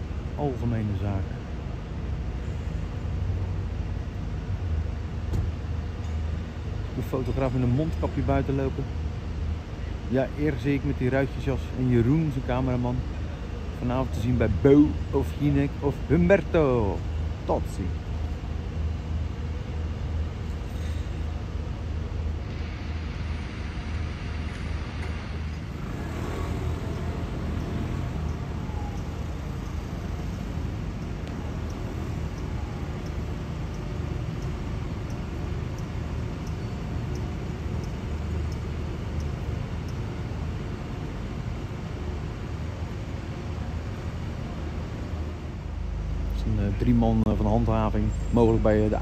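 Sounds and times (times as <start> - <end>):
street traffic noise: 0.0 - 49.0
vehicle engine idling: 0.0 - 49.0.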